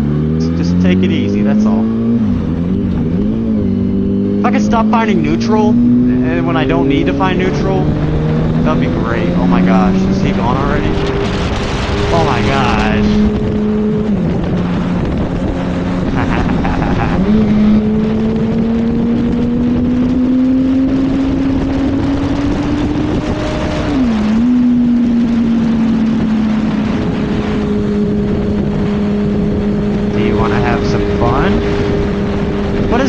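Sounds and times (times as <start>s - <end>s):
motorcycle engine running: 0.0s - 33.0s
wind rush: 0.8s - 33.0s.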